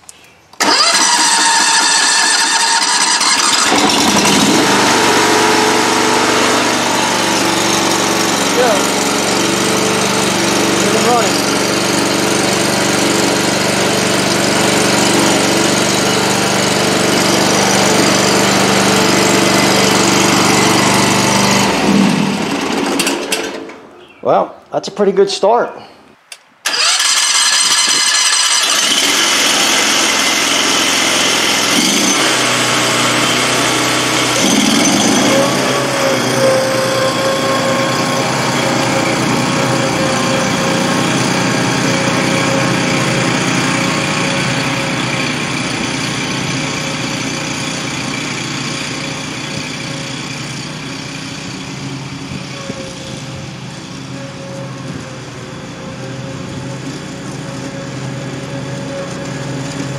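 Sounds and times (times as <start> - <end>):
lawn mower engine running: 0.5 - 24.1, 26.6 - 59.9.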